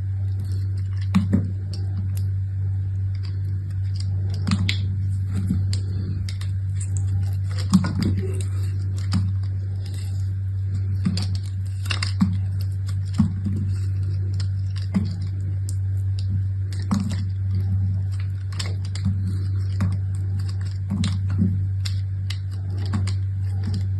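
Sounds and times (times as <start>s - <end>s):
steady low hum: 0.0s - 23.9s
packaging crinkling: 3.1s - 23.9s.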